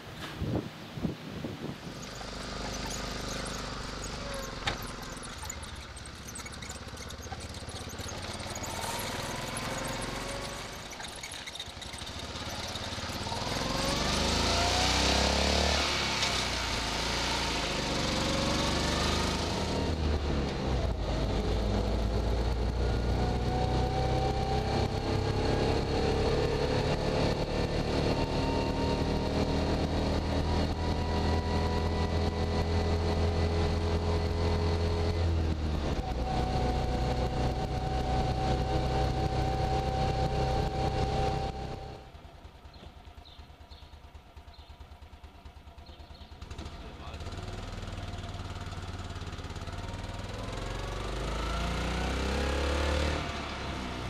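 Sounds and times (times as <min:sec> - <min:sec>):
single-cylinder engine running: 0:01.7 - 0:54.0.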